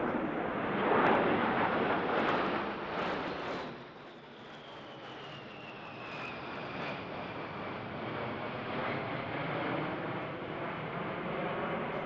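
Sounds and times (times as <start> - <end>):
jet aircraft flying over: 0.0 - 12.0.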